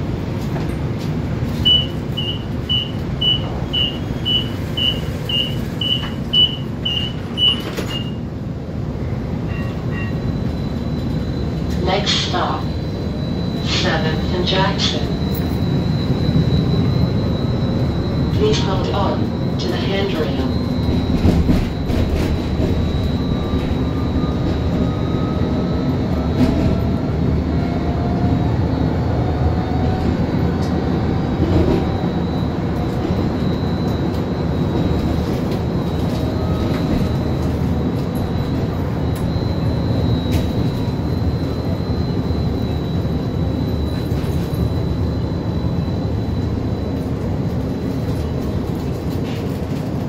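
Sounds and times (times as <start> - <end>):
high constant whine: 0.0 - 50.0
tram wheels rumbling: 0.0 - 50.0.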